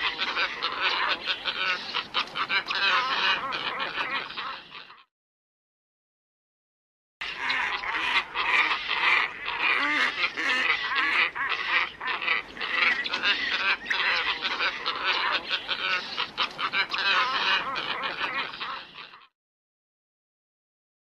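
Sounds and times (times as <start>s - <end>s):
ibises honking calls: 0.0s - 5.1s, 7.2s - 19.3s.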